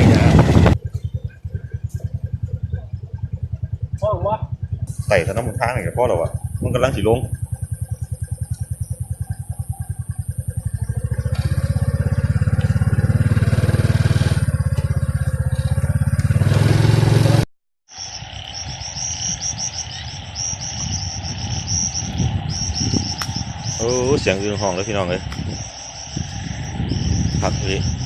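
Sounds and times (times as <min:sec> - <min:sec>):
motorcycle engine running: 0:00.0 - 0:17.5, 0:18.1 - 0:28.0
frogs chirping and croaking: 0:00.2 - 0:16.4, 0:17.9 - 0:28.0
insects chirping: 0:00.2 - 0:16.5, 0:17.9 - 0:28.0.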